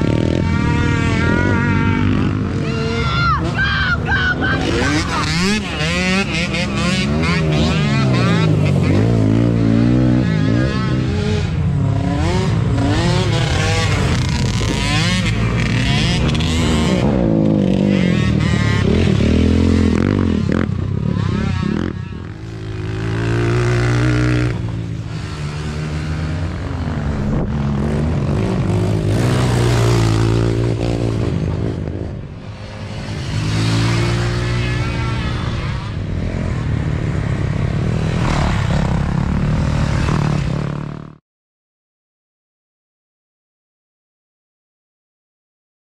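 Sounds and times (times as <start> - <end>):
dirt bike passing: 0.0 - 41.2
quad engines revving: 0.0 - 41.2.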